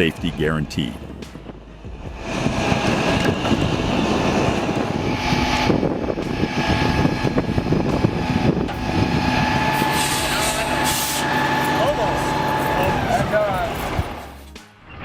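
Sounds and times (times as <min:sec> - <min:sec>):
large vehicle engine droning: 0:00.0 - 0:15.0.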